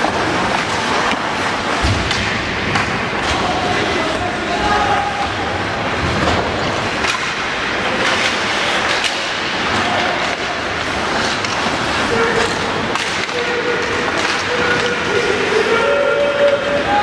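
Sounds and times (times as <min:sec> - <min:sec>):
skates scraping ice: 0:00.0 - 0:17.0
sticks and puck clacking: 0:00.0 - 0:17.0.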